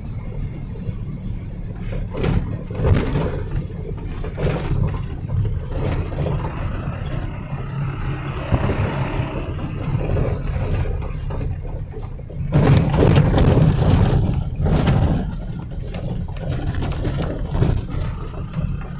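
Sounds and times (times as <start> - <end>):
vehicle engine and road rumble: 0.0 - 18.9.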